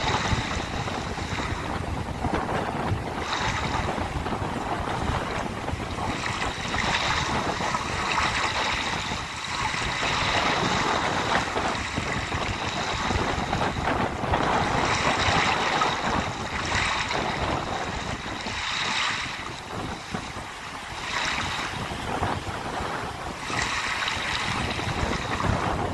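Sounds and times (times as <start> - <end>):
sea waves breaking on shore: 0.0 - 25.9
wind gusting over microphone: 0.0 - 25.9.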